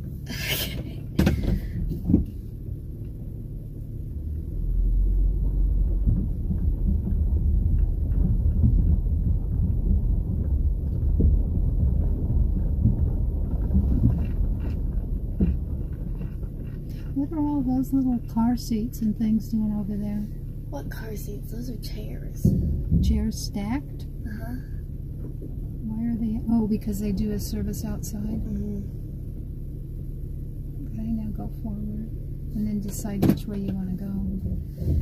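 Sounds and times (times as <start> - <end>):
car interior rumble: 0.0 - 35.0.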